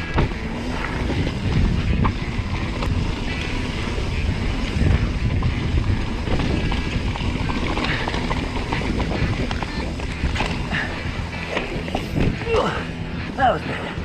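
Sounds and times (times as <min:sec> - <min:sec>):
bike clicks and rattles: 0:00.0 - 0:14.0
bike tyres rumbling over dirt: 0:00.0 - 0:14.0
wind buffeting microphone: 0:00.0 - 0:14.0.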